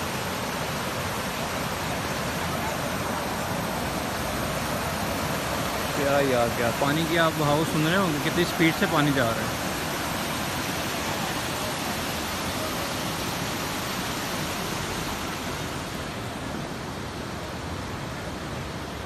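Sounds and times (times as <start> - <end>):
river rapids rushing over boulders: 0.0 - 19.0.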